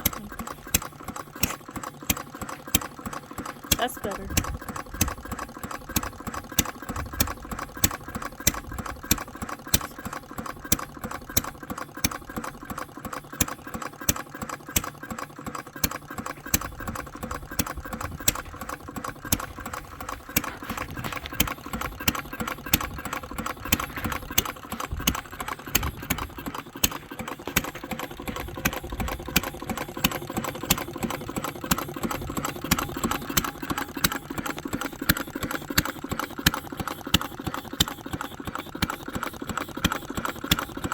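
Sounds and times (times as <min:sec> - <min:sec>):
engine ticking with mechanical clicks: 0:00.0 - 0:40.9.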